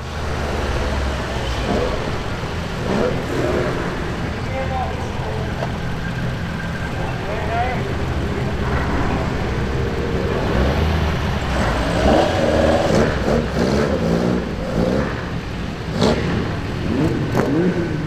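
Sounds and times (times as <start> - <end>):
engine throttle blips: 0.0 - 18.0
racing car engines running: 0.0 - 18.0.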